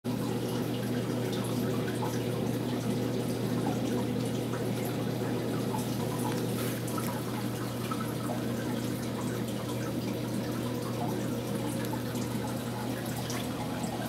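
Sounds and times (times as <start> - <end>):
aquarium water bubbling and dripping: 0.0 - 14.0
low equipment hum: 0.1 - 14.0.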